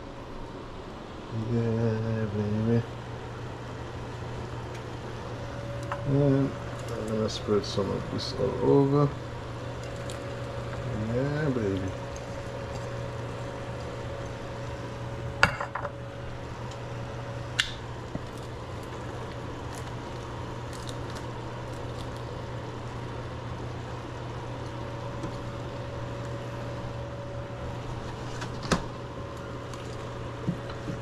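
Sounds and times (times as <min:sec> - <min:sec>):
low kitchen hum: 0:00.0 - 0:31.0.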